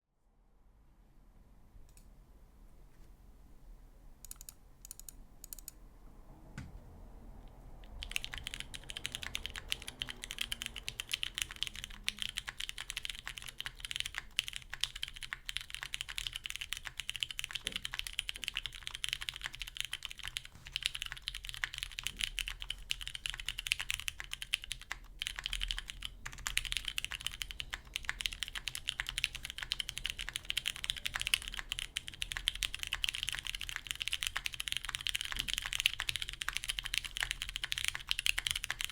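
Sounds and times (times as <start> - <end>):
mechanical keyboard typing: 4.2 - 5.8, 7.8 - 38.9.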